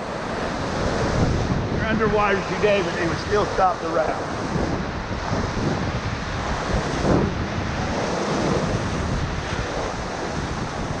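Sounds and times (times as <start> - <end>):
whitewater rushing: 0.0 - 11.0
wind buffeting microphone: 0.0 - 11.0.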